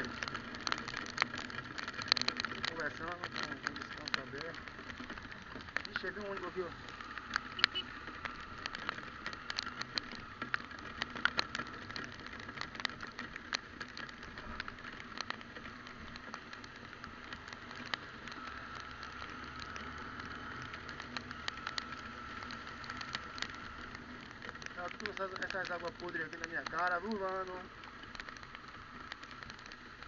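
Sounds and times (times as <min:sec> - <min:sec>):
motorcycle engine humming: 0:00.0 - 0:30.0
raindrops ticking on camera: 0:00.0 - 0:30.0.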